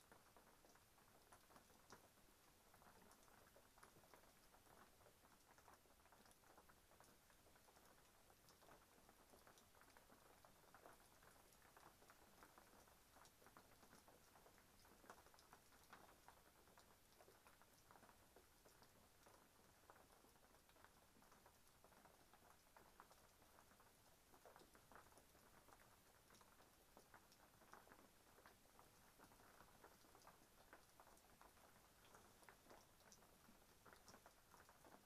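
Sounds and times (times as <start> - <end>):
raindrops pattering: 0.0 - 35.0.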